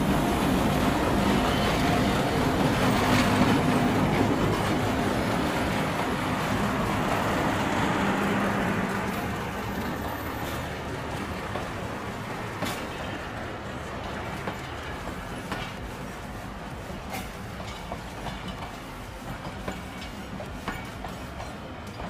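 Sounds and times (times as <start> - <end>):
train rolling along track: 0.0 - 22.0.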